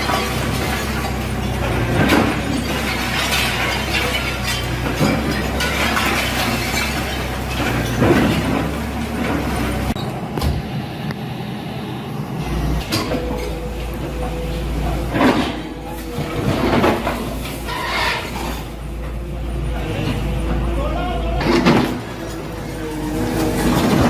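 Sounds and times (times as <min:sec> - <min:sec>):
demolition knocks and bangs: 0:00.0 - 0:10.7, 0:12.8 - 0:19.2, 0:21.4 - 0:24.0
bulldozer engine running: 0:00.0 - 0:24.0.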